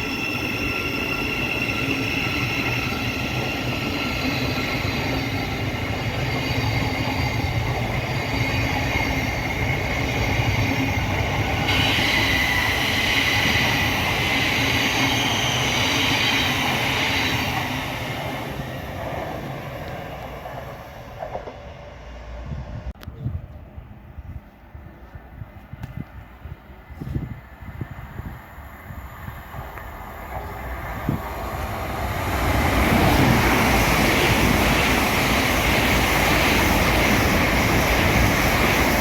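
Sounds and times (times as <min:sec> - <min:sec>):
electric train passing: 0:00.0 - 0:23.0, 0:27.3 - 0:39.0.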